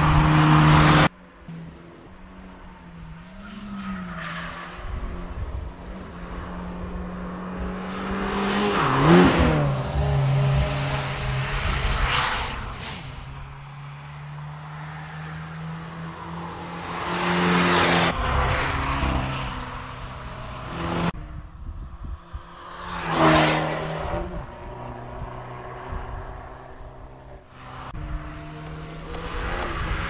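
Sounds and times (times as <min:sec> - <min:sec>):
car engine passing: 0:00.0 - 0:21.4, 0:22.2 - 0:30.0.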